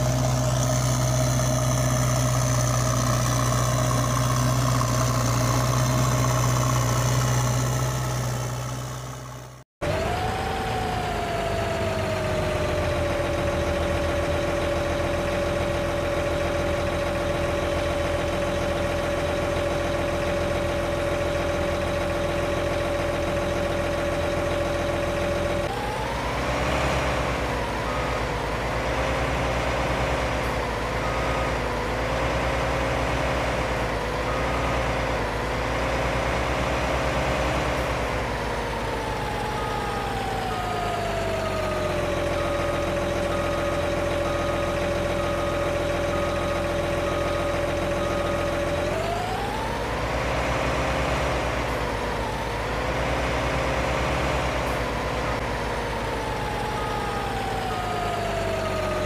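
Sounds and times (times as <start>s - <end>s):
engine-like drone: 0.0s - 59.0s.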